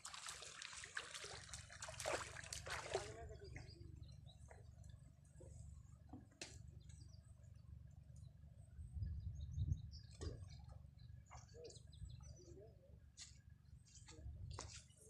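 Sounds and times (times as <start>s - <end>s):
low steady rumble: 1.3s - 14.6s
birds chirping: 2.4s - 15.0s.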